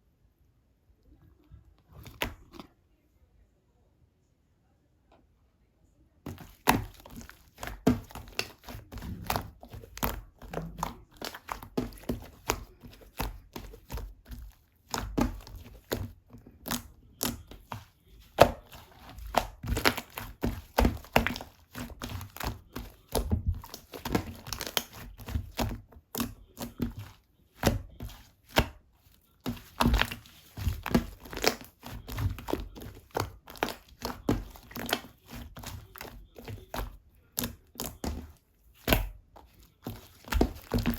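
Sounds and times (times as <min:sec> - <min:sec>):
slime squished by hand: 0:06.3 - 0:40.9.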